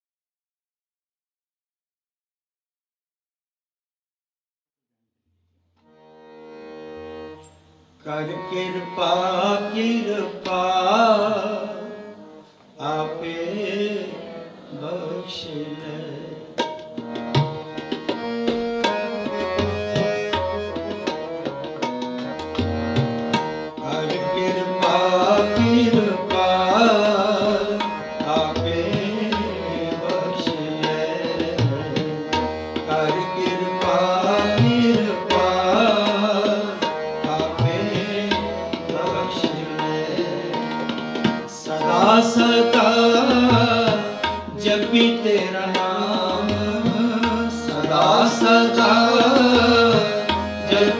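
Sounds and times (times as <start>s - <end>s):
harmoniums sustaining melody: 5.8s - 50.9s
tabla rhythm: 6.3s - 50.9s.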